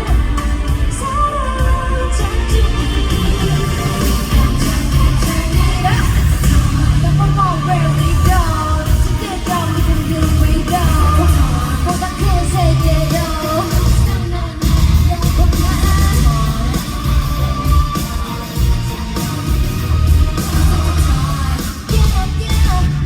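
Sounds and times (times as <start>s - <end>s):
bass-heavy backing track: 0.0s - 23.0s
group singing live: 0.0s - 23.0s.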